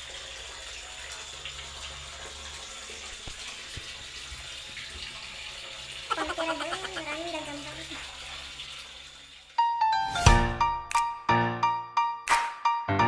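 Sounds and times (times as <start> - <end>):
water running from tap: 0.0 - 10.9.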